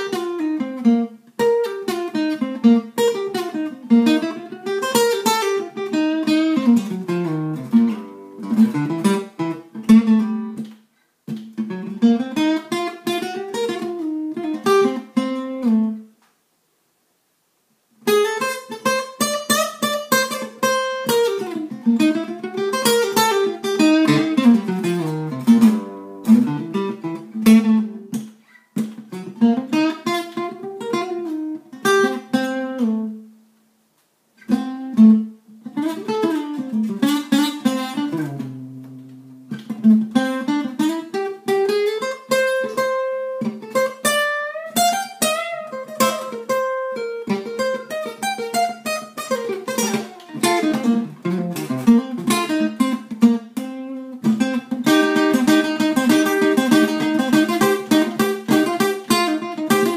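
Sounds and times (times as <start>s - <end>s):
acoustic guitar blues licks: 0.0s - 16.1s, 18.0s - 33.4s, 34.4s - 59.9s.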